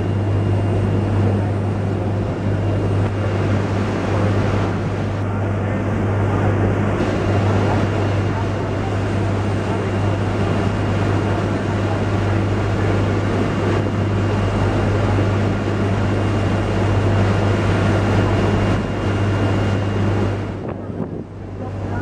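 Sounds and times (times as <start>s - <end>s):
boat engine humming: 0.0s - 22.0s
rush of wind and water: 0.0s - 22.0s.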